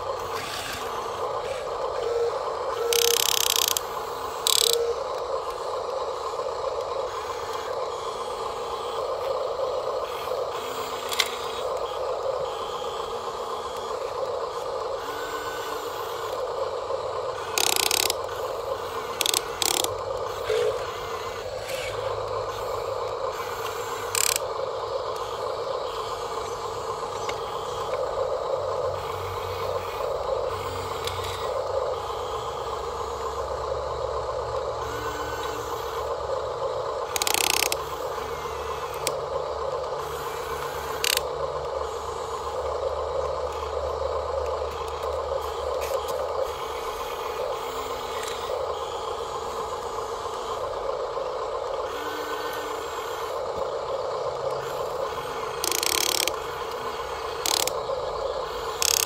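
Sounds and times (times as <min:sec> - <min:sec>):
electric gear motors whining: 0:00.0 - 0:59.0.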